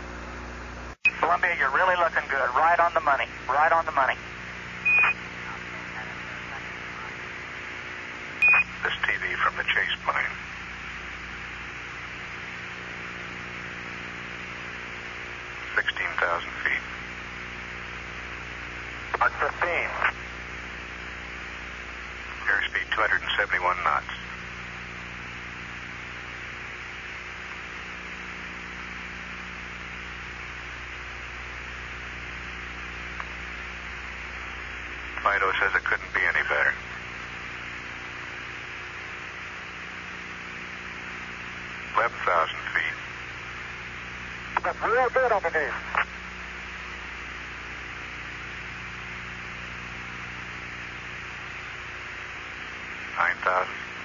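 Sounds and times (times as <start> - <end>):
mains hum: 0.0 - 54.0
radio hiss: 0.0 - 54.0.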